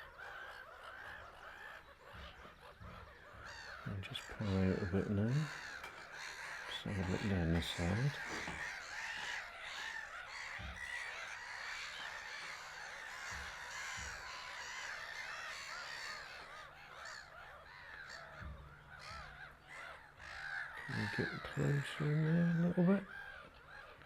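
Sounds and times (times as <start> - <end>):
gulls calling: 0.0 - 24.0.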